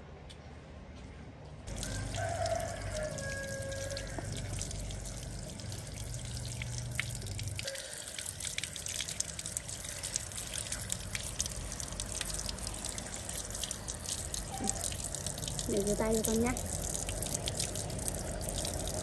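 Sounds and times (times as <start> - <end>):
low background hum: 0.0 - 19.0
water splashing from tap: 1.7 - 19.0.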